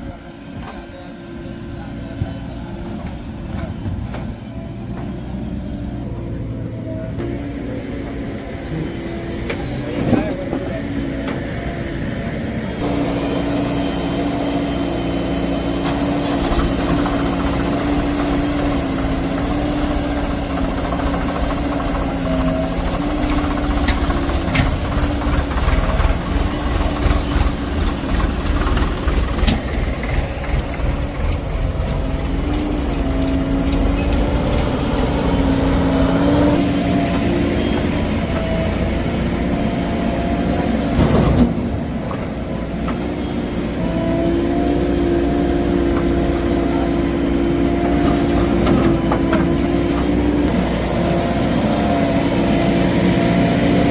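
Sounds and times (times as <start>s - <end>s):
diesel machinery engine running: 0.0s - 53.9s.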